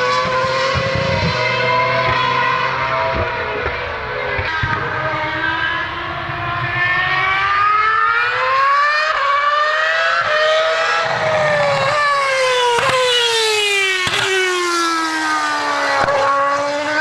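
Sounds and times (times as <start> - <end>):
racing car engine revving: 0.0 - 17.0.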